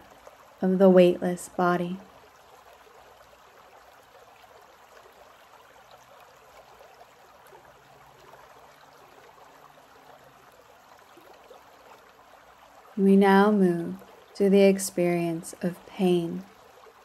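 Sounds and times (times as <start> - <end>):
creek water flowing over rocks: 0.0 - 17.0.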